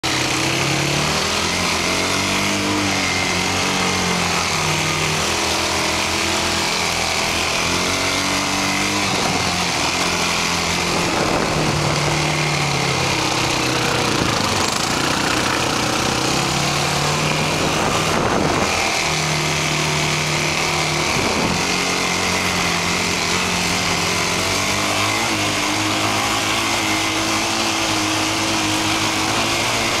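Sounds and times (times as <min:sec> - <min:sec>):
engines revving: 0:00.0 - 0:30.0
rush of noise: 0:00.0 - 0:30.0
steady high whine: 0:02.5 - 0:27.3.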